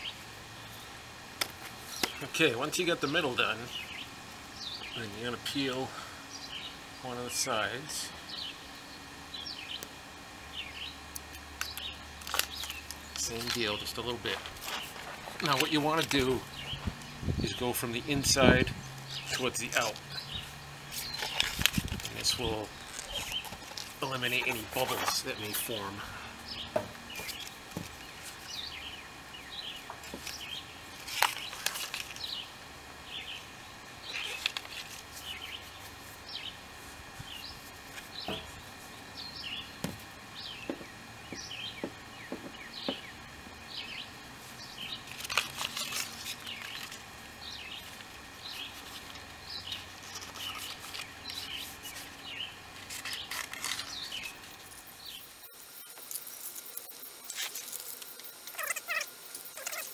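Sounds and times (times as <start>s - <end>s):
small birds chirping: 1.8s - 59.9s.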